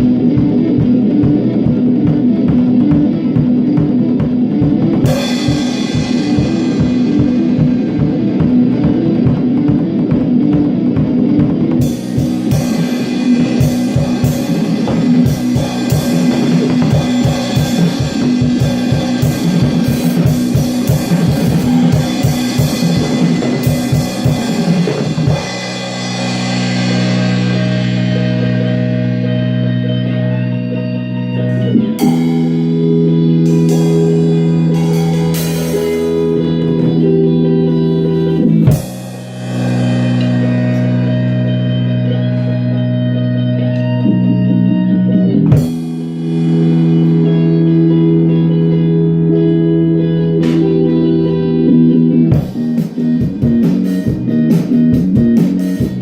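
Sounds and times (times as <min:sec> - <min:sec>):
drum kit playing: 0:00.0 - 0:56.0
electric guitar chords ringing: 0:00.0 - 0:56.0
rock music recording: 0:00.0 - 0:56.0.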